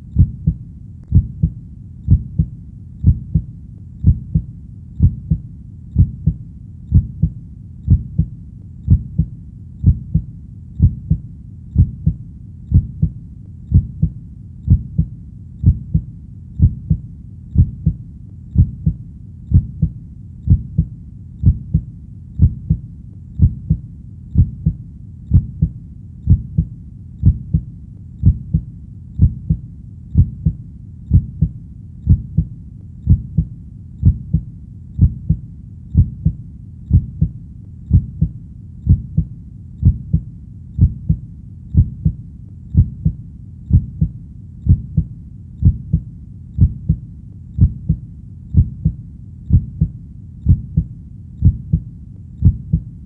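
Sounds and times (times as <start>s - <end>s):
heartbeat thumps: 0.0s - 52.9s
constant low background noise: 0.0s - 53.0s.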